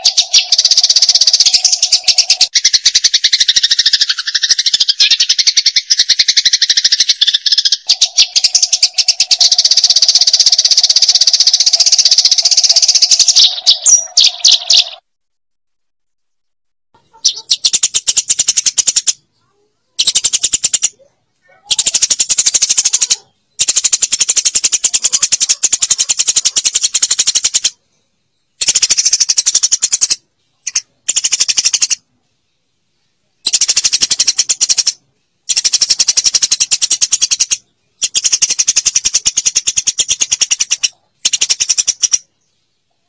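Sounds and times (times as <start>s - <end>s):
sparrow chirping: 0.0s - 15.0s, 17.0s - 43.0s.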